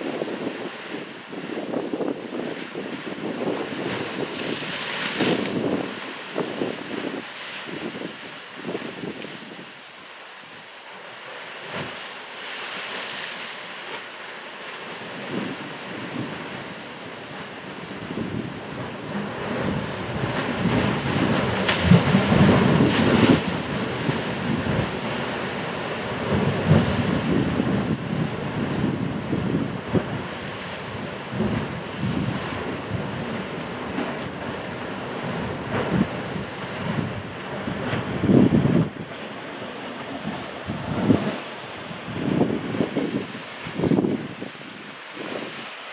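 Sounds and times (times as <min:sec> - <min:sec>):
sea surf splashing on rocks: 0:00.0 - 0:45.9.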